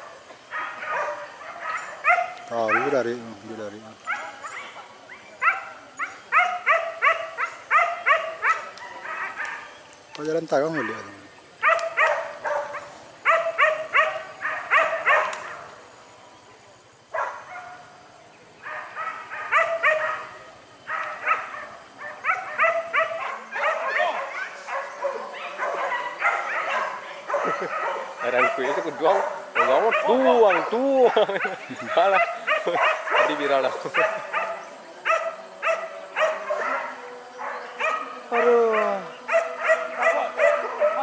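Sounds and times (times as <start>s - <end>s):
dogs barking and yelping: 0.0s - 3.2s, 4.0s - 9.8s, 10.6s - 15.8s, 17.1s - 18.0s, 18.6s - 41.0s.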